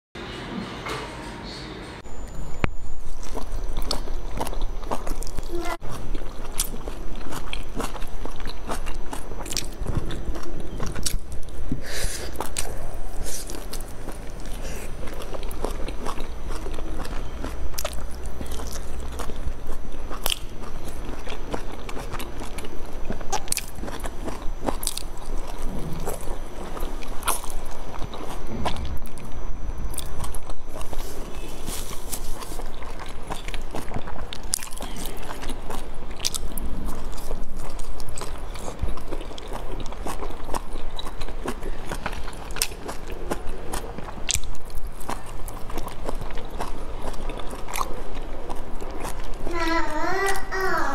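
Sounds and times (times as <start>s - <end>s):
chewing and biting: 3.0s - 49.5s.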